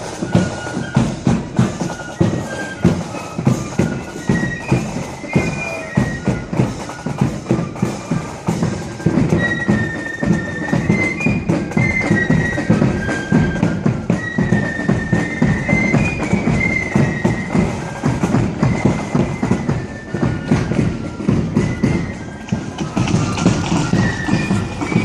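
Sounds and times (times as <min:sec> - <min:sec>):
bass and side drums beating: 0:00.0 - 0:25.0
flutes playing melody: 0:00.0 - 0:25.0.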